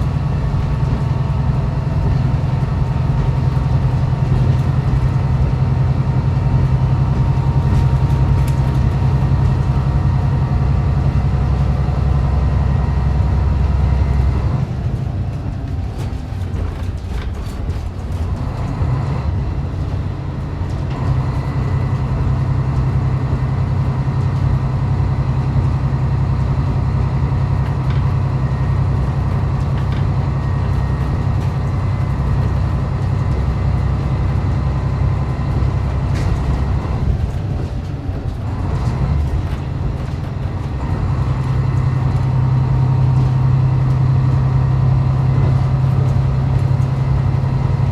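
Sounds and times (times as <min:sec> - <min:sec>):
diesel railcar engine drone: 0:00.0 - 0:47.9
wheel and rail running noise: 0:00.0 - 0:47.9.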